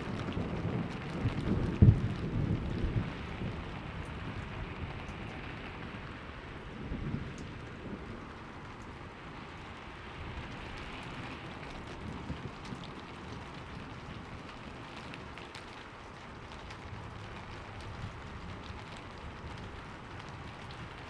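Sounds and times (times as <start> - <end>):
rain falling: 0.0 - 21.0
thunder rumbling: 0.0 - 21.0.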